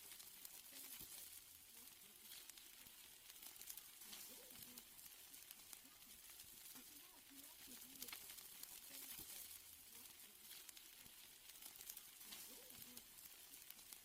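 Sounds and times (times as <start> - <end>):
steaks sizzling on a grill: 0.0 - 14.0.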